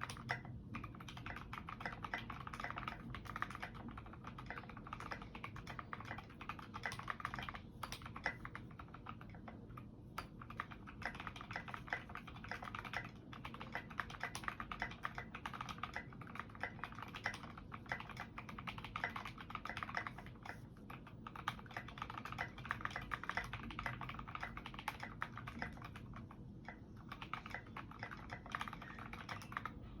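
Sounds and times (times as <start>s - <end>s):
typing on mechanical keyboard: 0.0s - 30.0s.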